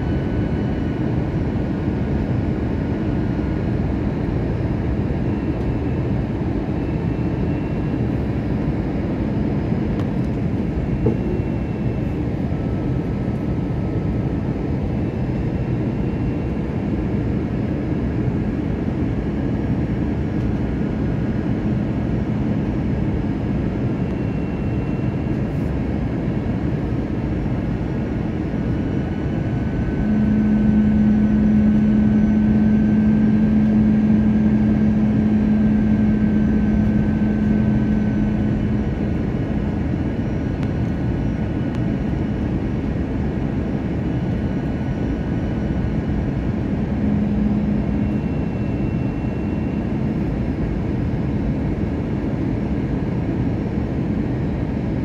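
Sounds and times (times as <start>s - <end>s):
airliner cabin air and engine noise: 0.0s - 55.0s.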